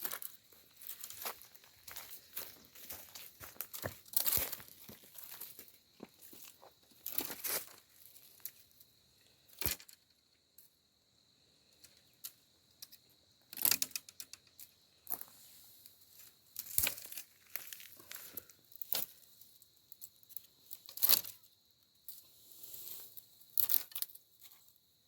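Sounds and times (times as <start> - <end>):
crackles and rustles: 0.0 - 8.8, 12.2 - 24.8.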